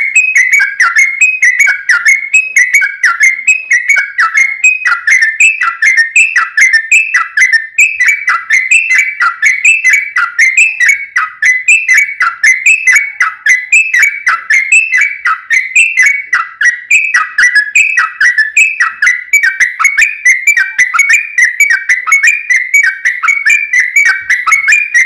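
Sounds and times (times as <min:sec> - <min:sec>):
bird singing bubbly whistles: 0:00.0 - 0:25.0.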